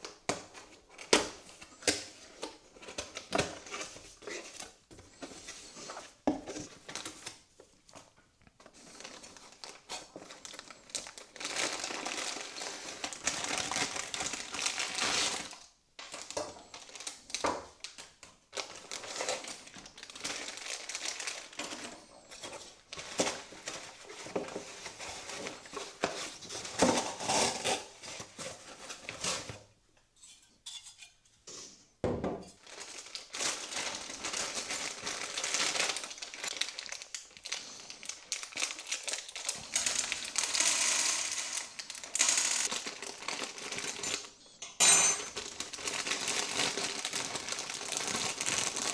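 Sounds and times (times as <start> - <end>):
packaging crinkling and rustling: 0.0 - 29.7, 32.6 - 44.4, 45.2 - 48.9.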